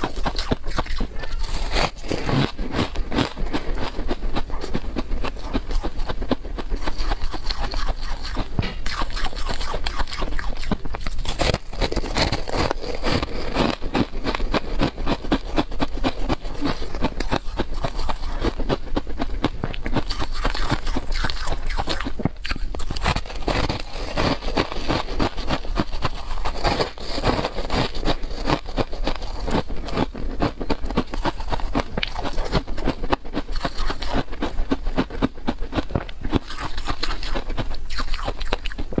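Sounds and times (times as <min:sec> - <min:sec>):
crunching and chewing snacks: 0:00.0 - 0:39.0.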